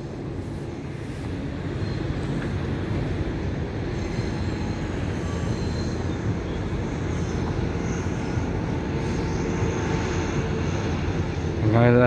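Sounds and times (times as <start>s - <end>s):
distant diesel locomotive rumble: 0.0s - 12.0s
faint high squeals: 0.4s - 11.6s.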